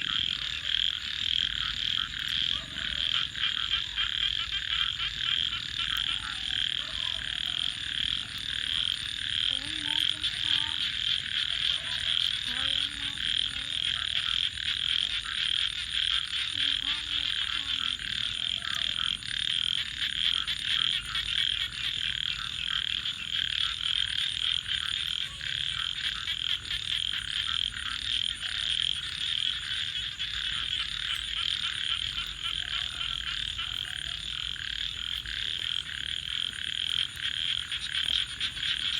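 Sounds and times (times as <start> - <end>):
frogs calling: 0.0 - 38.9.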